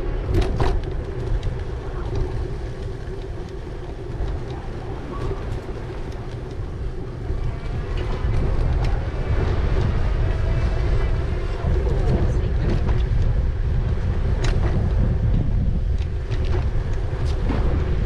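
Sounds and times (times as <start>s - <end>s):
tyres and motor humming: 0.0s - 18.0s
wind rumbling on microphone: 0.0s - 18.0s.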